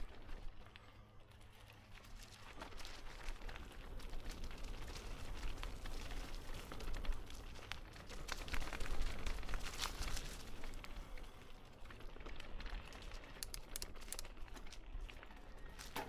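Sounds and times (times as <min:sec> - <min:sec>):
footsteps crunching on a trail: 0:00.0 - 0:16.0.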